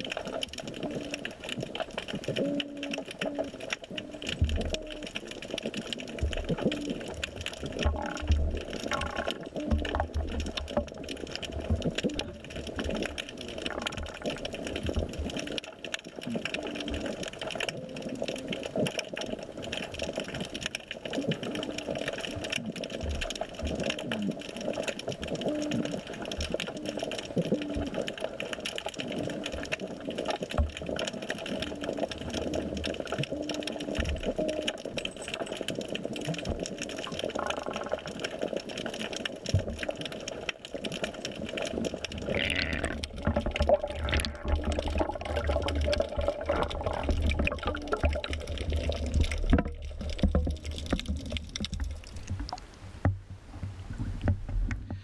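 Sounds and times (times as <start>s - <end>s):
crackling clicks: 0.0s - 55.0s
underwater whirring hum: 0.0s - 55.0s.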